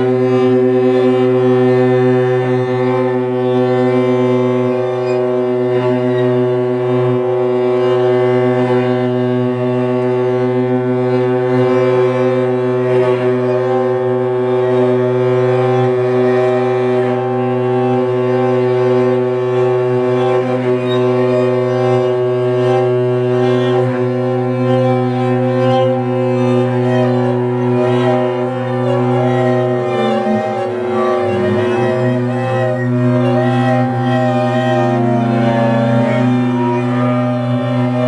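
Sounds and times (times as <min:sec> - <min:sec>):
strings bowing a drone: 0:00.0 - 0:38.0.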